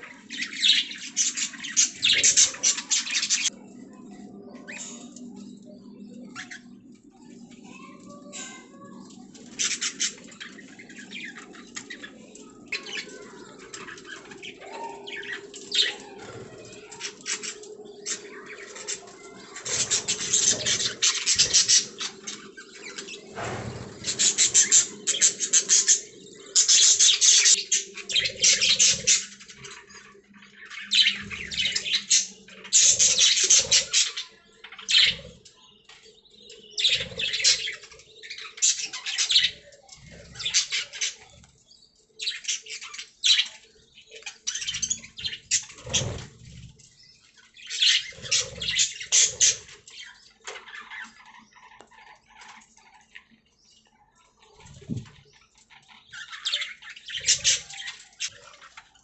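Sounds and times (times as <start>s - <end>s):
budgies chirping and warbling: 0.0s - 59.0s.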